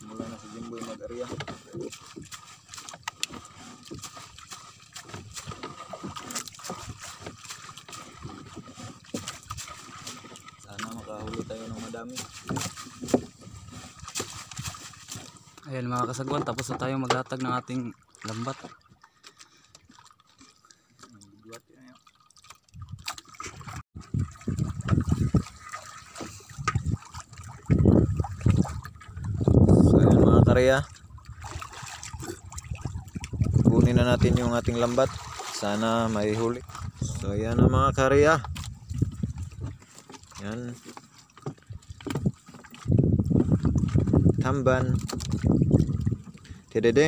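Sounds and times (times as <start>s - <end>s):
water splashing against boat: 0.0s - 47.0s.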